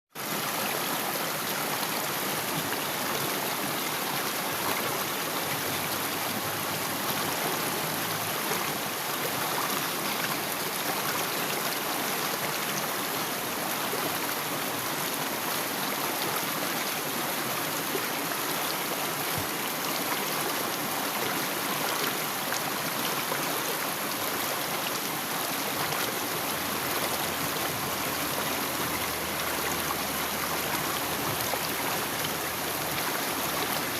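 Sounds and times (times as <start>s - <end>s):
stream flowing over rocks: 0.2s - 33.9s.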